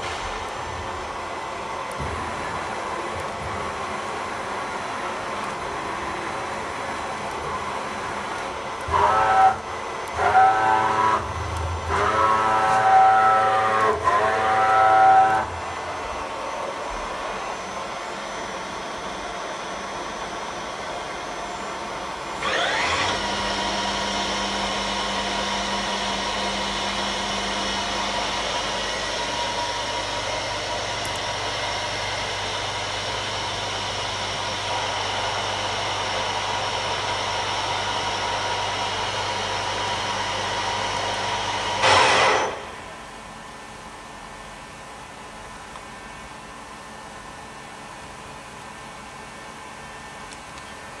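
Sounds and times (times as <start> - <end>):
machine spindle whine: 0.0 - 51.0.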